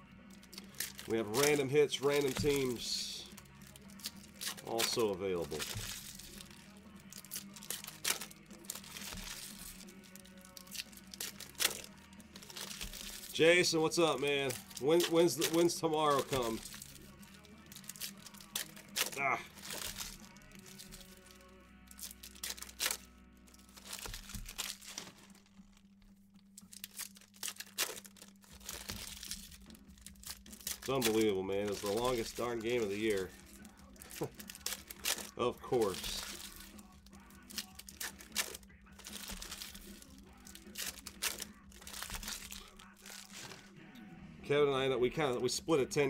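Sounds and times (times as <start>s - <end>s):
card wrappers rustling and crinkling: 0.3s - 43.8s.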